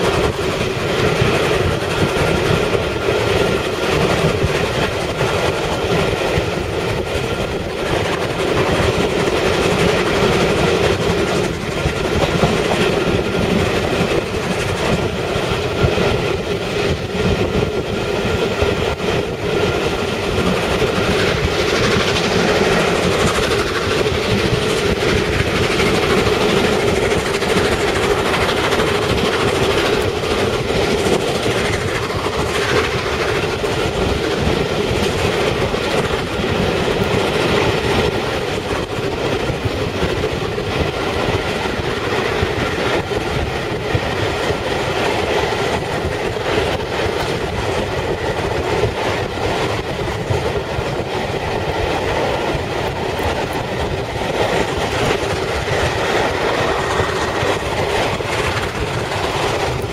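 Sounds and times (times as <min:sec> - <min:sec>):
steam train running: 0:00.0 - 0:59.9
wheels clacking over rails: 0:00.0 - 0:59.9.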